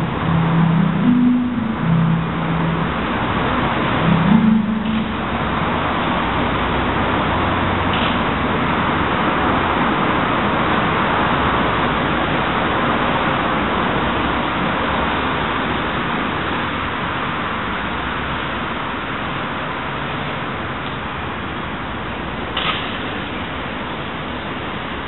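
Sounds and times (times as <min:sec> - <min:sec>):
road traffic rushing: 0:00.0 - 0:25.0.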